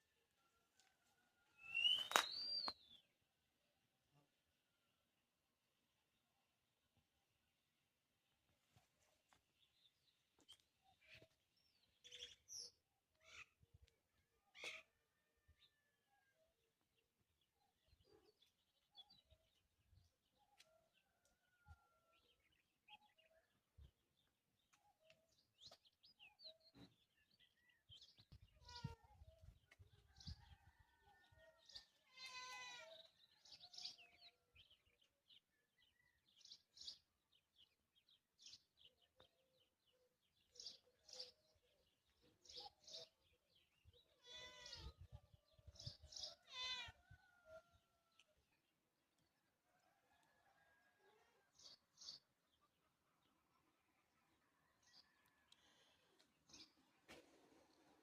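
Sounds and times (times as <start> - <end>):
faint birdsong chirps: 9.6 - 58.0.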